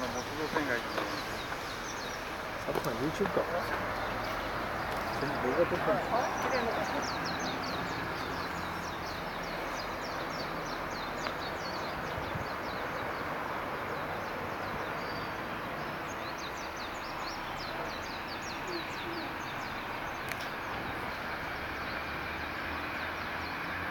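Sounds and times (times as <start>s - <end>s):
birds chirping: 0.0s - 23.9s
steady outdoor hiss: 0.0s - 23.9s.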